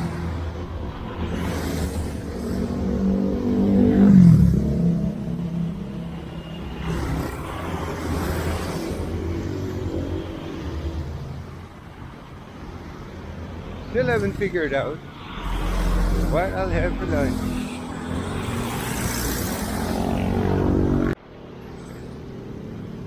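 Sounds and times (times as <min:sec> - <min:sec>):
motor vehicles passing: 0:00.0 - 0:23.0.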